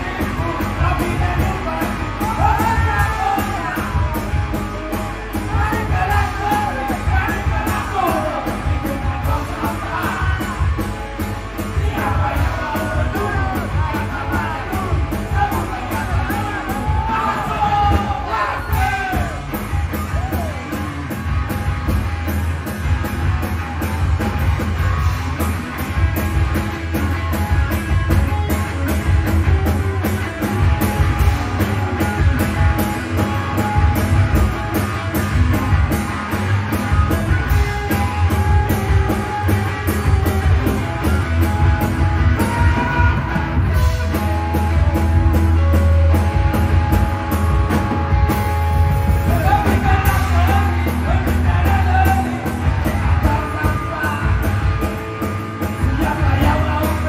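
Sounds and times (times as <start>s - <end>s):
bass guitar: 0.0s - 57.0s
drum kit beat: 0.0s - 57.0s
electric guitars: 0.0s - 57.0s.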